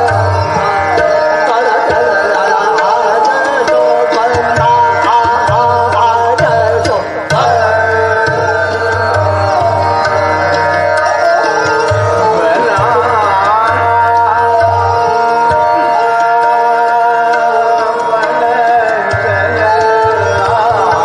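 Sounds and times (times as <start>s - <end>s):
man singing classical vocals: 0.0s - 21.0s
tabla strokes: 0.0s - 21.0s.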